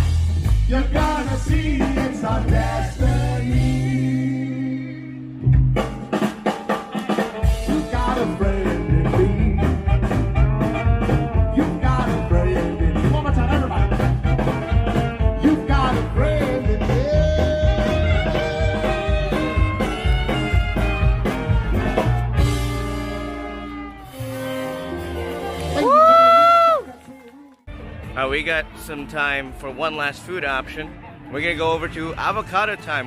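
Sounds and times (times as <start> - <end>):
swing band playing: 0.0 - 27.5.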